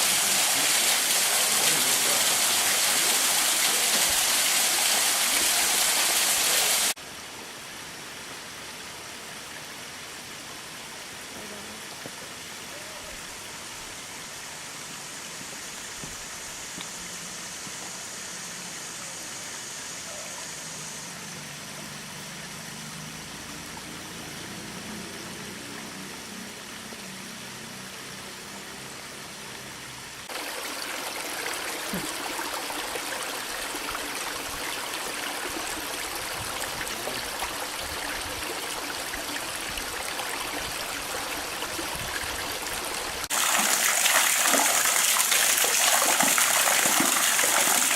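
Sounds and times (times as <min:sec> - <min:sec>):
creek and waterfalls rushing: 0:00.0 - 0:47.9.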